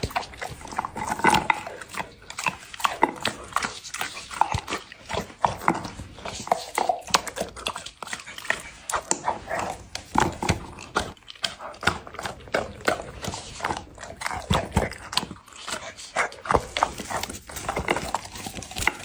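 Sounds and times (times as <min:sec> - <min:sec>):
dog crunching food: 0:00.0 - 0:19.0.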